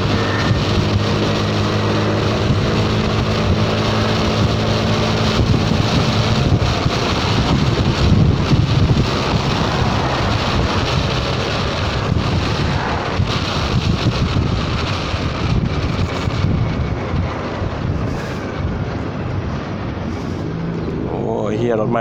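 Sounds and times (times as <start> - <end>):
road noise: 0.0 - 22.0
scooter engine: 0.0 - 22.0
wind rushing over microphone: 0.0 - 22.0.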